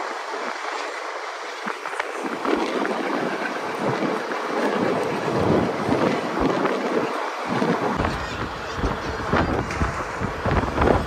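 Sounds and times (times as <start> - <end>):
train running on track: 0.0 - 11.0
wind buffeting microphone: 0.0 - 11.0.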